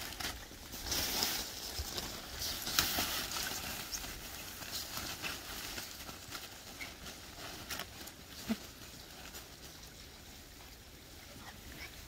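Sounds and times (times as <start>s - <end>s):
puppies scuffling: 0.0s - 10.1s
fabric tunnel crinkling: 0.0s - 12.0s
paws on grass: 0.0s - 12.0s.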